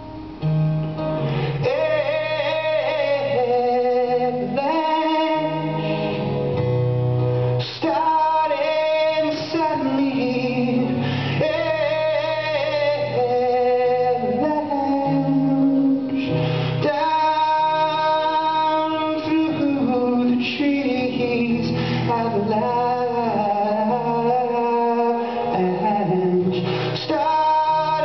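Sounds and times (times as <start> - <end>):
acoustic guitar: 0.0 - 28.0
man singing: 1.3 - 6.5, 7.6 - 28.0.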